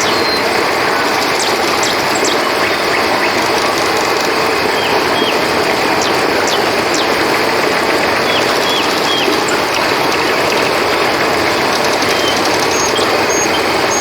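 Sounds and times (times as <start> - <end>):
high falling chirps: 0.0 - 14.0
river water rushing: 0.0 - 14.0.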